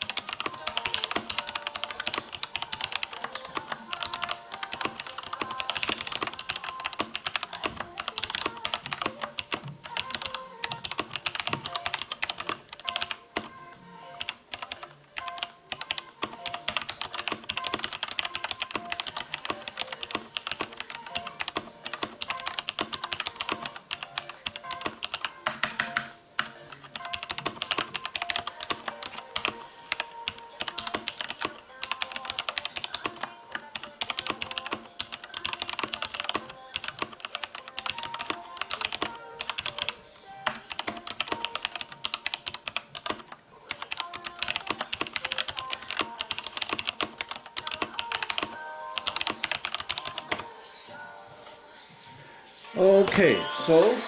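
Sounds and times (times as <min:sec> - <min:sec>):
mechanical keyboard typing: 0:00.0 - 0:13.5, 0:14.2 - 0:50.5.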